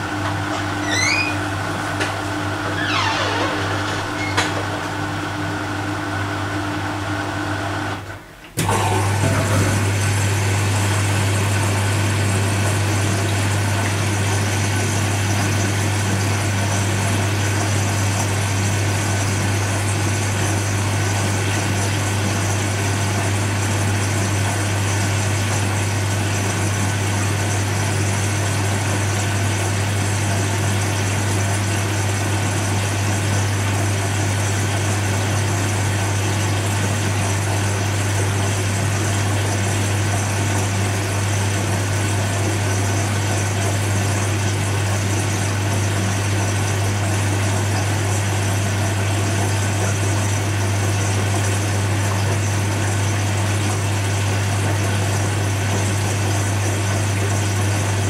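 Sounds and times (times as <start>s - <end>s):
washing machine running: 0.0s - 58.0s.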